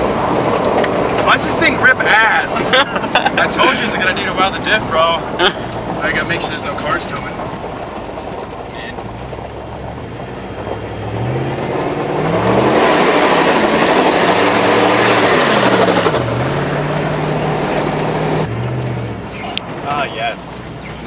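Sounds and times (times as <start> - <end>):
car engine accelerating hard: 0.0 - 21.0
road and wind noise: 0.0 - 21.0.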